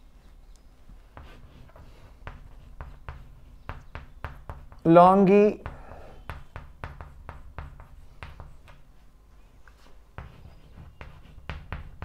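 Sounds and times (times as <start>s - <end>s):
chalk tapping and scraping on chalkboard: 0.9s - 12.0s.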